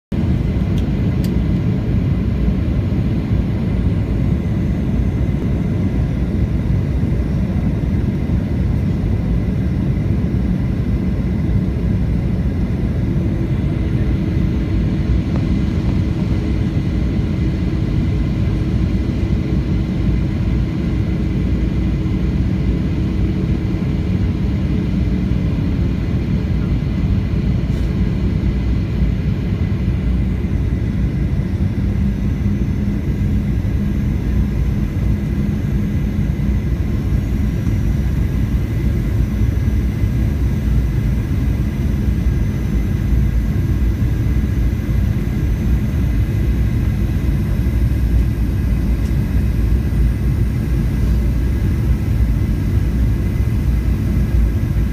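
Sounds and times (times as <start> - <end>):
jet engine cabin rumble: 0.1 - 54.9
faint steady hum: 0.2 - 54.9.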